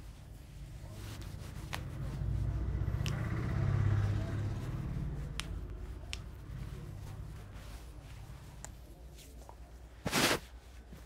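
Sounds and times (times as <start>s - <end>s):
passing vehicle engine rumble: 0.1s - 9.0s.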